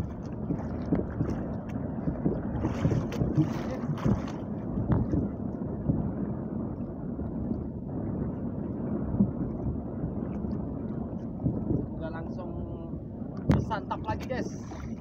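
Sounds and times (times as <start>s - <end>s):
choppy sea against boat hull: 0.0s - 15.0s
wind buffeting microphone: 0.0s - 15.0s.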